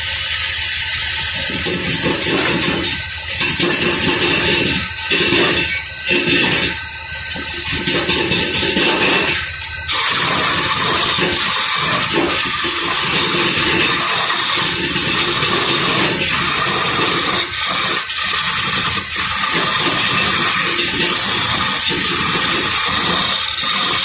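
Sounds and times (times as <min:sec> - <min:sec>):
machine running with rushing noise: 0:00.0 - 0:24.0.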